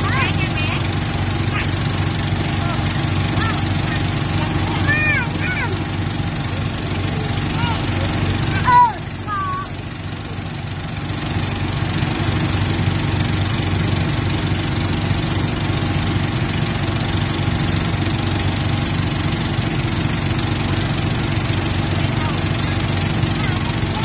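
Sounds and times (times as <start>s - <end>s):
motorboat engine droning: 0.0s - 24.0s.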